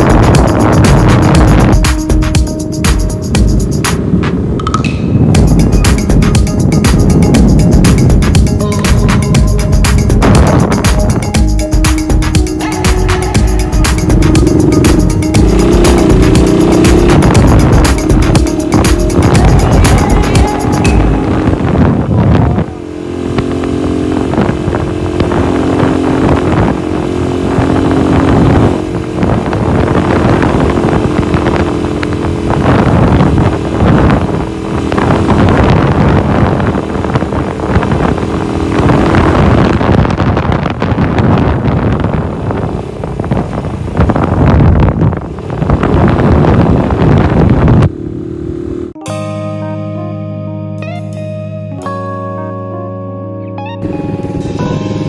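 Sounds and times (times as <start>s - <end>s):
wind buffeting microphone: 0.0s - 11.3s, 13.4s - 48.8s
motorcycle engine running: 0.0s - 49.1s, 53.8s - 55.0s.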